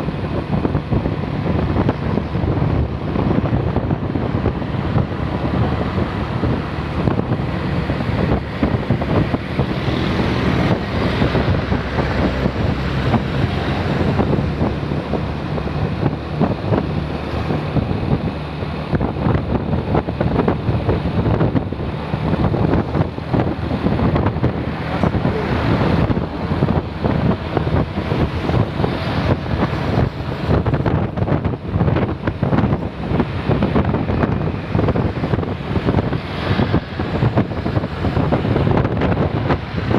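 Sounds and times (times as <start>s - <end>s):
vehicle engine running: 0.0s - 39.9s
wind buffeting microphone: 0.0s - 39.9s.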